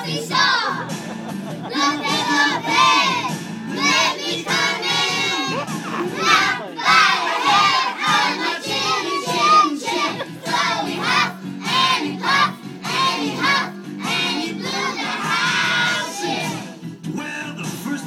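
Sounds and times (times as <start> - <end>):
children singing together: 0.0 - 16.8.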